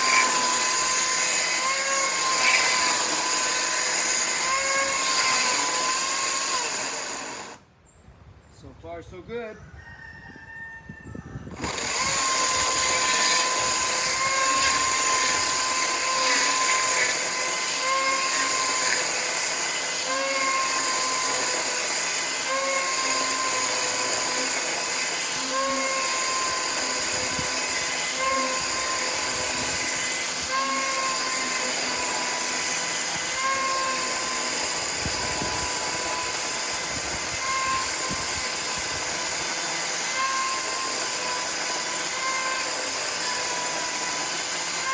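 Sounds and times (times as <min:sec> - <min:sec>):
chainsaw cutting through wood: 0:00.0 - 0:07.6, 0:11.5 - 0:44.9.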